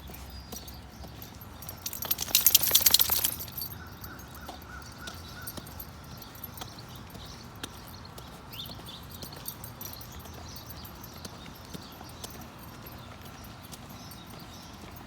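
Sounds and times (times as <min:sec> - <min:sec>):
jangling metallic rattle: 0:00.1 - 0:07.1, 0:08.6 - 0:15.0.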